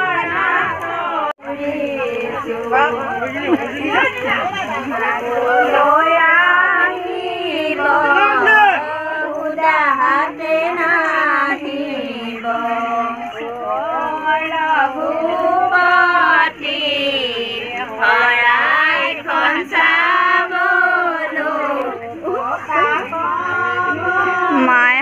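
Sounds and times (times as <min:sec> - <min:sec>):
women singing together: 0:00.0 - 0:25.0.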